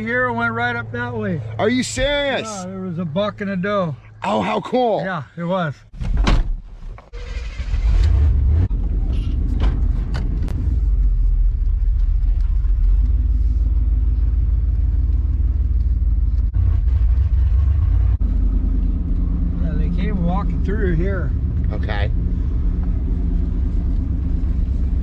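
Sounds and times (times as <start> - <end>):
engine and road rumble: 0.0 - 25.0.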